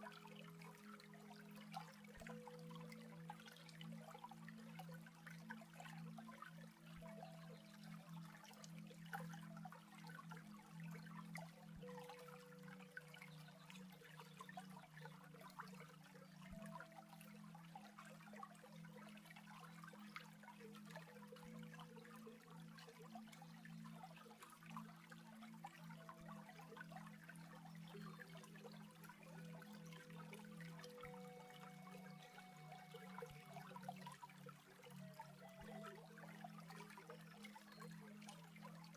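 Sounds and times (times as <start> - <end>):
faint stream trickling: 0.0 - 38.9
soft low held tones: 0.0 - 38.9.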